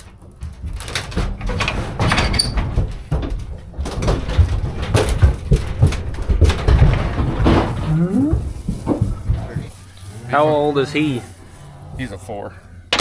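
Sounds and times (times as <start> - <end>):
hooves knocking on metal: 0.0 - 13.0.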